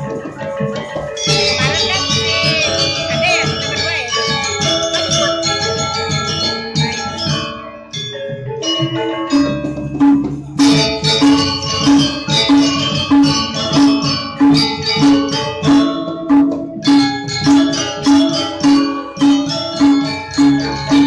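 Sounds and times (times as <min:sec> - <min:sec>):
metallophones ringing: 0:00.0 - 0:21.0.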